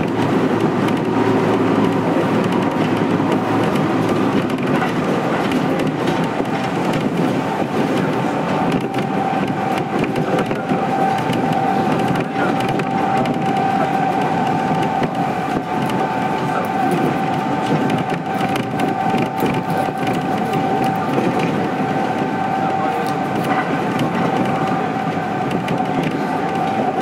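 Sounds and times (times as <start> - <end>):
constant whine: 0.0 - 27.0
train wheels rumbling on track: 0.0 - 27.0.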